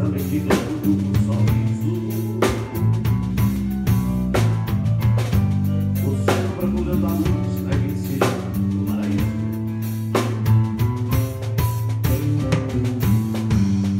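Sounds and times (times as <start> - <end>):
drum and cymbal hits: 0.0 - 13.9
electric bass notes: 0.0 - 13.9.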